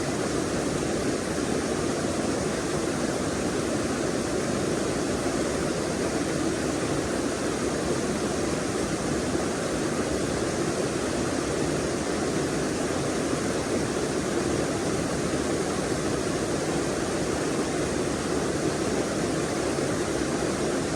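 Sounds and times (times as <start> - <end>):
stream flowing: 0.0 - 20.9.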